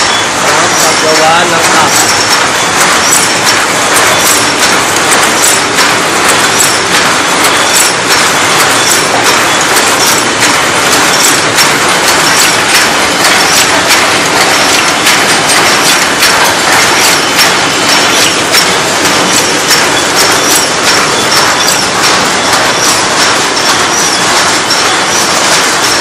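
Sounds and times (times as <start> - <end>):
machine clattering: 0.0 - 26.0.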